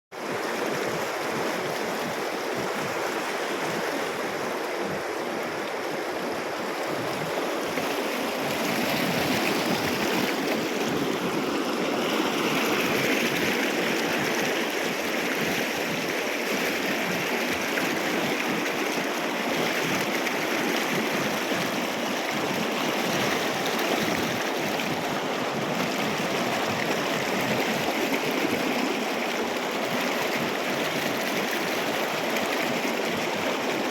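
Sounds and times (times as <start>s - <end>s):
water rushing over rocks: 0.2s - 33.9s.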